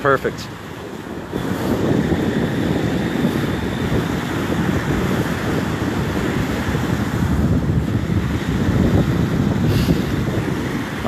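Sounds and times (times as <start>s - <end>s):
small waves washing ashore: 0.0s - 11.0s
wind buffeting microphone: 0.0s - 11.0s.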